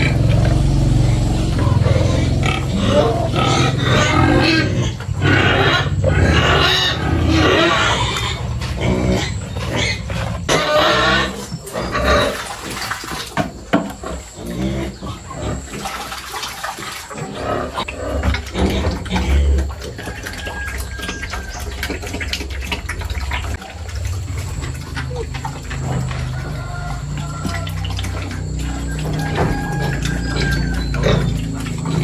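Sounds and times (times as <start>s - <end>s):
loud pig call: 0.0s - 12.9s, 17.0s - 32.0s
pig slurping and chomping: 0.0s - 32.0s.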